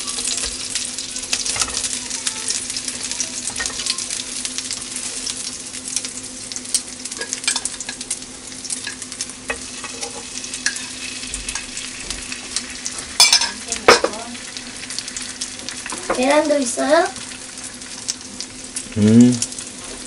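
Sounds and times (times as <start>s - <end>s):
oil sizzling and crackling: 0.0s - 20.0s.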